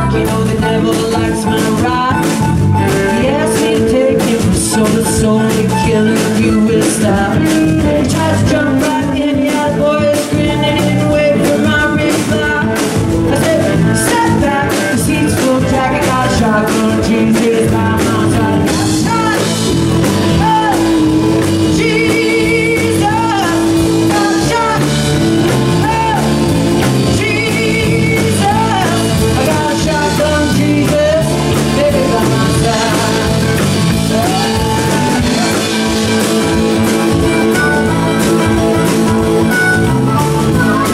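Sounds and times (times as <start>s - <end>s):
woman singing: 0.0s - 19.6s, 20.2s - 36.1s
live rock band playing: 0.0s - 40.9s
sliding guitar lead line: 0.0s - 40.9s.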